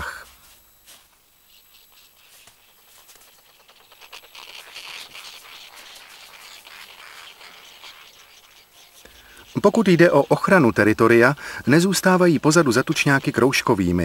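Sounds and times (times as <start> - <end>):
bird scratching at snow: 1.4 - 14.0.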